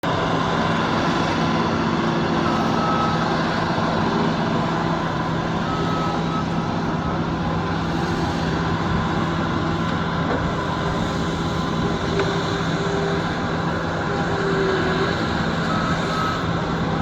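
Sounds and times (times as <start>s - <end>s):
diesel construction machine running: 0.0s - 17.0s.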